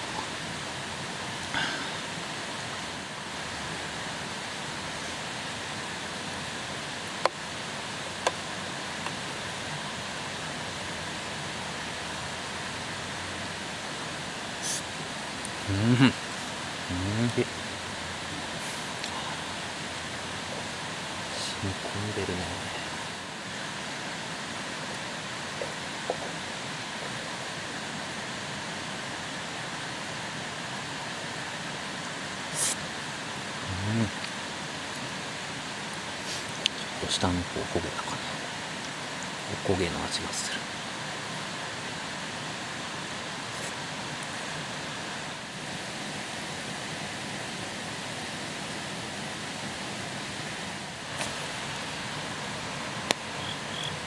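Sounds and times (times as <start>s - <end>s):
steady rushing hiss: 0.0s - 54.0s.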